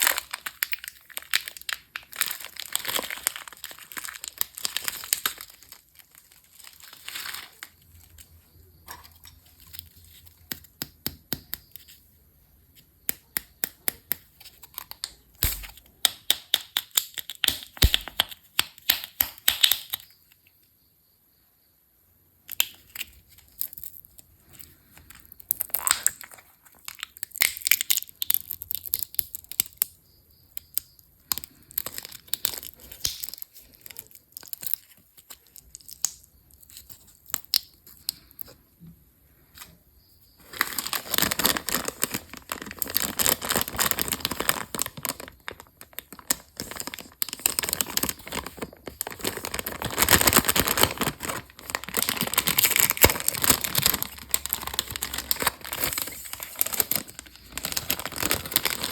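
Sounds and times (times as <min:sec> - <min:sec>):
candy wrappers crinkling: 0:00.0 - 0:12.0, 0:13.2 - 0:20.0, 0:22.5 - 0:38.6, 0:40.4 - 0:58.9.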